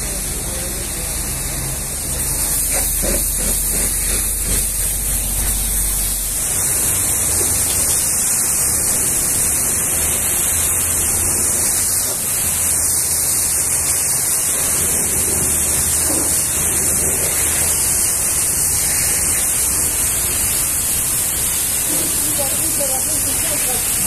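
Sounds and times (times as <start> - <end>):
pressure washer spraying: 0.0 - 24.0.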